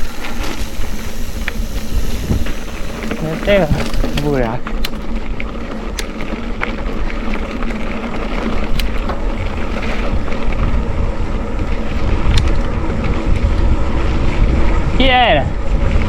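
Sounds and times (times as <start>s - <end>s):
bike rattling clicks: 0.0s - 14.3s
wind buffeting microphone: 0.0s - 16.0s.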